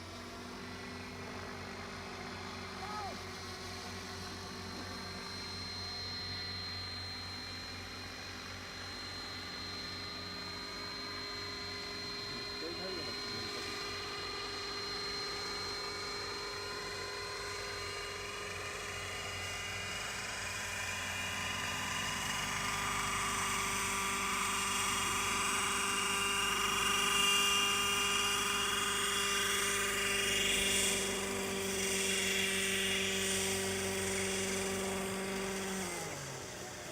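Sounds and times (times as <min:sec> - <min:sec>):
model helicopter whining: 0:00.0 - 0:36.9.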